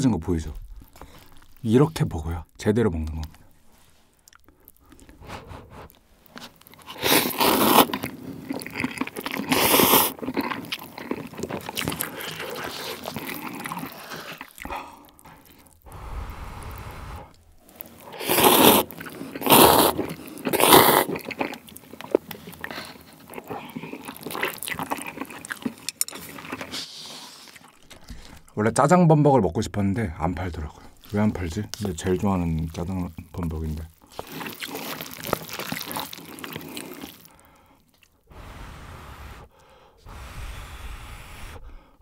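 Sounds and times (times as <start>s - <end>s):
wet chewing: 0.6s - 2.1s, 2.9s - 28.6s, 30.3s - 39.8s
slurping noodles: 4.9s - 28.4s, 30.9s - 37.6s, 38.2s - 41.9s.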